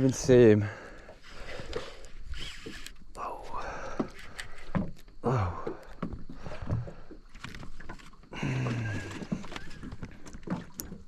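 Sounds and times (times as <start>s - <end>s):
knocks and splashes around boat: 0.0s - 11.0s.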